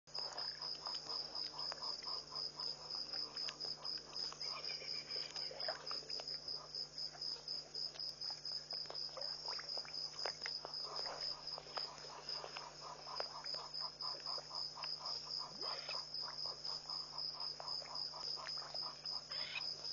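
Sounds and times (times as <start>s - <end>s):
lower pulsing insect call: 0.1s - 19.9s.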